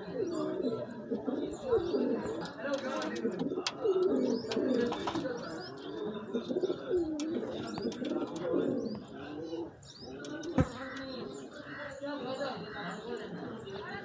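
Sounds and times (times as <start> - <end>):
pigeons cooing: 0.0 - 11.5.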